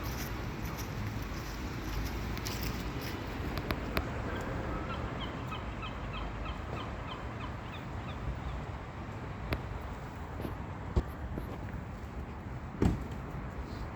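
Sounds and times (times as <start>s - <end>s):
traffic hum: 0.0s - 13.9s.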